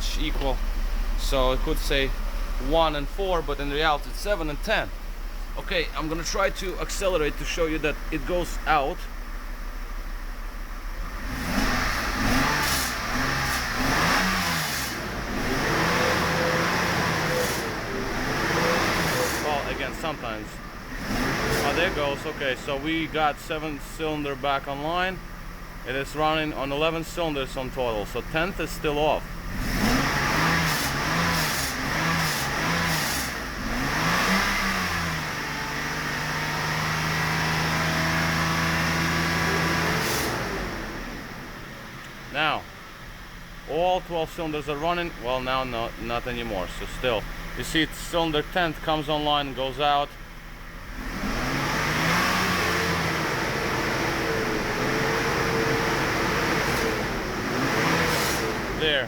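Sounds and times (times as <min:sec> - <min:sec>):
misfiring car engine revving: 0:00.0 - 0:59.0.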